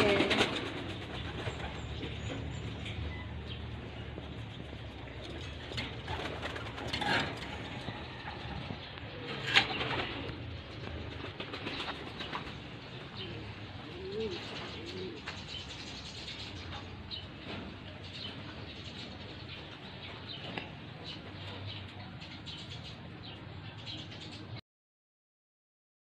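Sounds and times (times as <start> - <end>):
pigeons cooing: 0.0 - 24.5.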